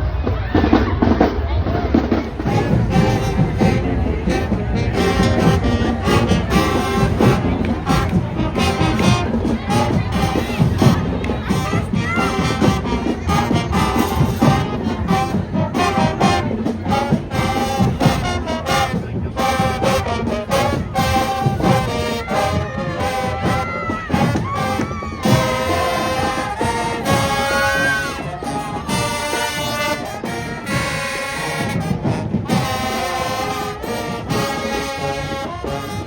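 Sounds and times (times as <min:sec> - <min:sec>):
drumline pounding: 0:00.0 - 0:36.0
marching band brass: 0:00.0 - 0:36.0.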